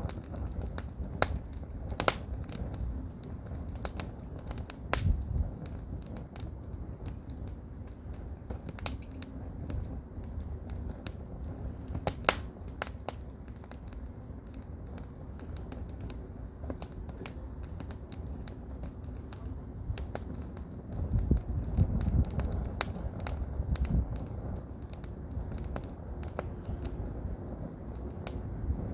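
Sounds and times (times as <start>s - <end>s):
firewood crackling and popping: 0.0s - 28.9s
wind rumble: 0.0s - 28.9s.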